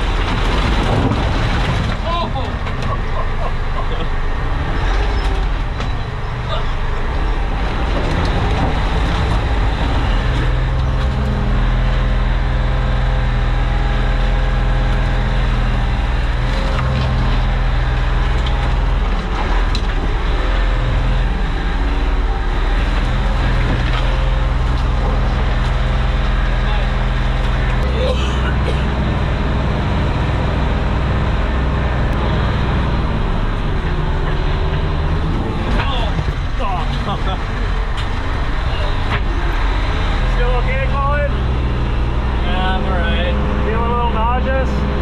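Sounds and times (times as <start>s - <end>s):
diesel engine running under load: 0.0s - 45.0s.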